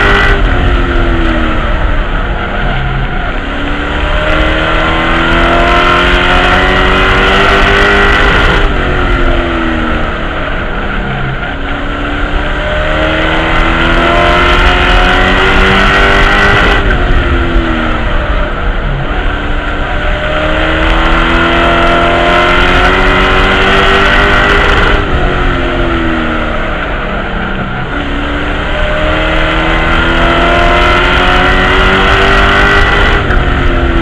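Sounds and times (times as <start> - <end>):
race truck engine revving: 0.0 - 34.0.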